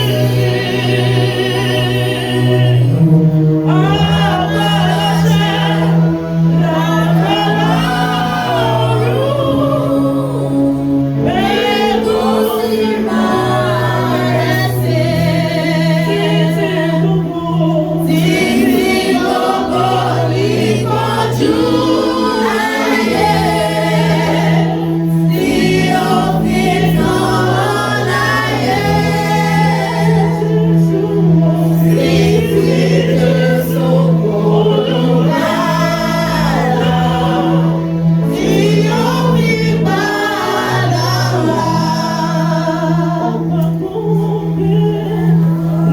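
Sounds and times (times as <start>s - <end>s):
choir singing a gospel song: 0.0s - 45.9s
organ bass chords: 0.0s - 45.9s.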